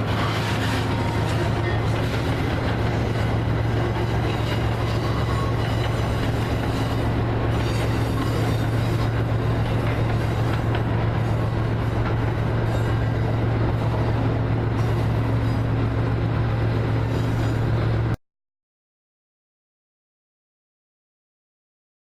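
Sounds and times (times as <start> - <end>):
train rumbling past: 0.0 - 18.2.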